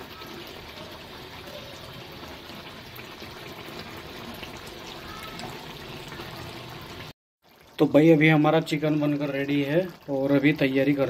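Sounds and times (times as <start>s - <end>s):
curry bubbling and sizzling: 0.0s - 11.0s.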